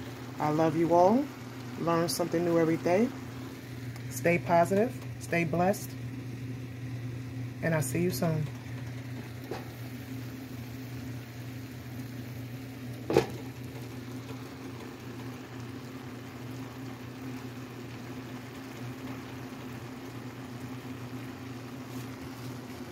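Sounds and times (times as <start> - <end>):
kitchen vent fan humming: 0.0 - 22.9
pans simmering: 0.0 - 22.9.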